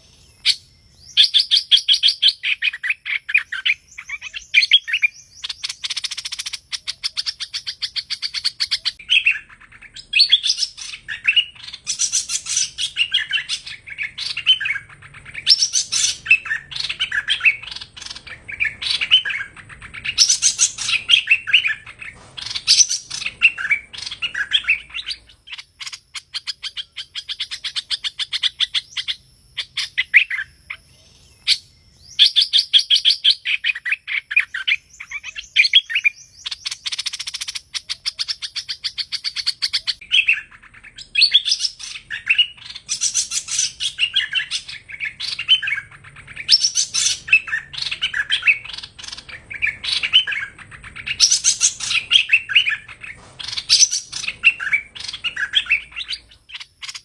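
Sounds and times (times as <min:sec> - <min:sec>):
bird song chirps and whistles: 0:00.0 - 0:57.0.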